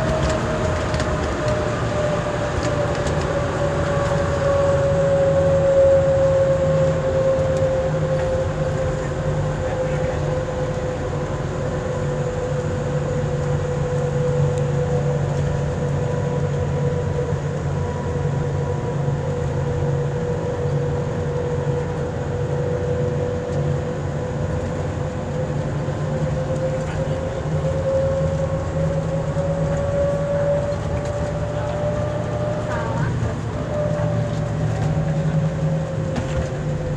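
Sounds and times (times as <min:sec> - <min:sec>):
tram rumble: 0:00.0 - 0:36.9.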